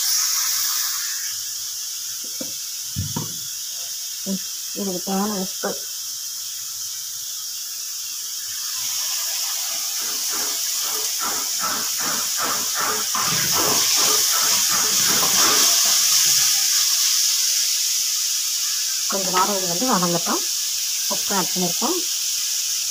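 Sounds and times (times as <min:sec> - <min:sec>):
vegetables sizzling in oil: 0:00.0 - 0:22.9.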